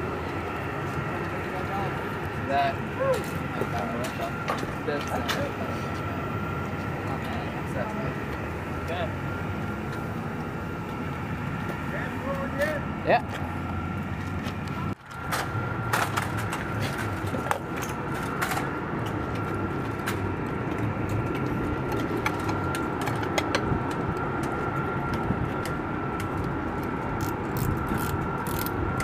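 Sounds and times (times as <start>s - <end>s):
high whine: 0.0s - 29.0s
machinery drone: 0.0s - 29.0s.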